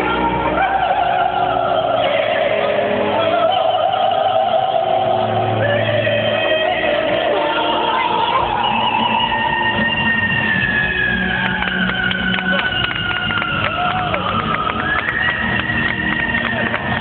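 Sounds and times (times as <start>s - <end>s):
live song through sound system: 0.0s - 17.0s.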